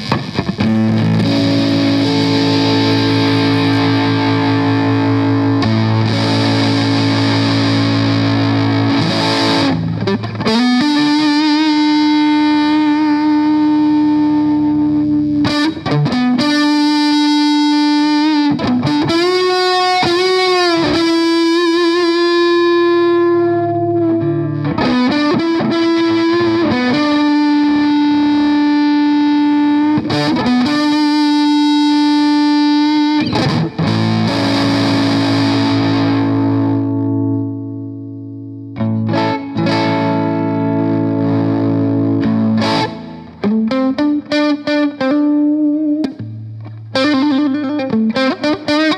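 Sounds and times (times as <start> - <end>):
overdriven electric guitar notes: 0.0 - 48.9.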